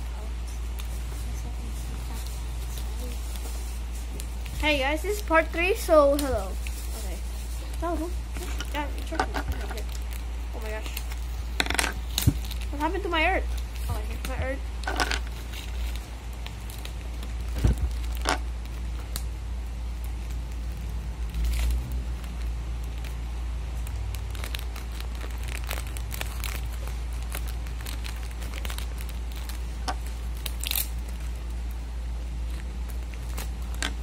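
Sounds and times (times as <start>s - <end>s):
steady low hum: 0.0s - 34.0s
paper crinkling: 0.1s - 34.0s.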